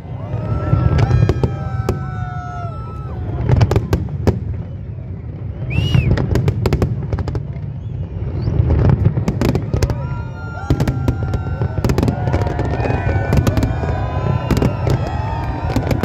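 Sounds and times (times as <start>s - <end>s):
fireworks bangs and crackles: 0.0s - 16.0s
firework whistle: 0.2s - 16.0s.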